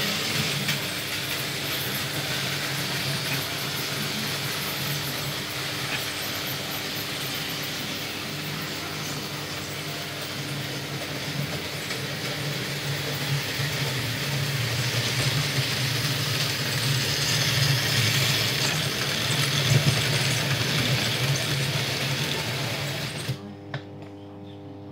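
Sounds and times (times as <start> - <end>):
model train motor hum: 0.0 - 23.4
wheels rattling over rails: 0.0 - 23.4.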